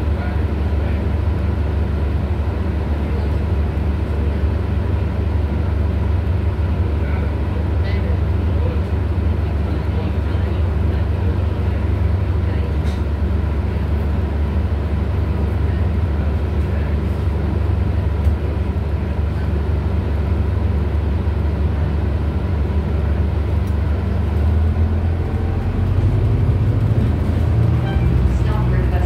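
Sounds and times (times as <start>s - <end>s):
bus diesel engine idling: 0.0s - 29.0s.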